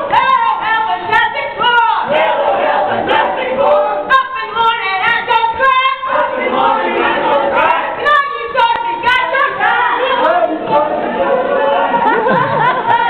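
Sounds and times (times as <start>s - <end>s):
crowd singing and shouting: 0.0s - 13.0s.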